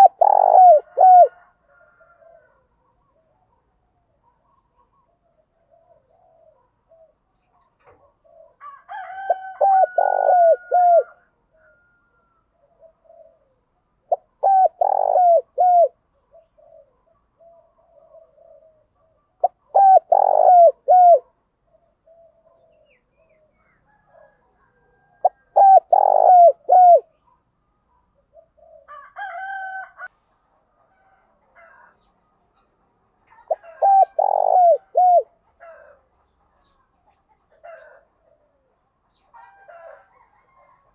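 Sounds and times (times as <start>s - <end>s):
doves cooing: 0.0s - 3.6s, 4.2s - 27.2s, 28.2s - 29.1s, 33.2s - 36.8s, 37.5s - 40.9s.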